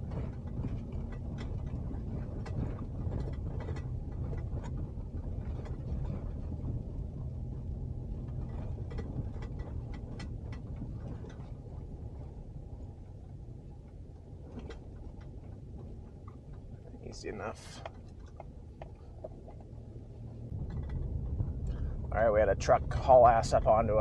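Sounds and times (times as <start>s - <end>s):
clicks and rattles in truck cab: 0.0s - 24.0s
engine and road rumble: 0.0s - 24.0s.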